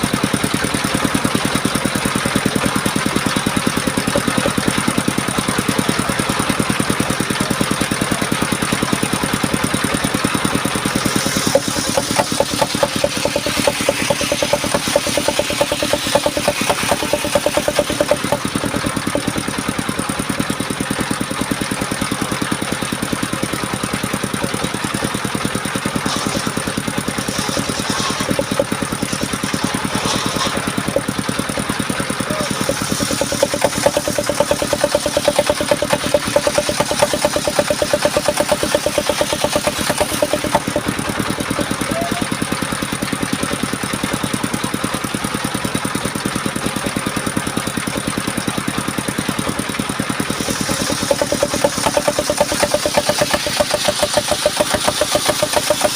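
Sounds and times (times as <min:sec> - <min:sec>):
small sawmill engine running: 0:00.0 - 0:55.9.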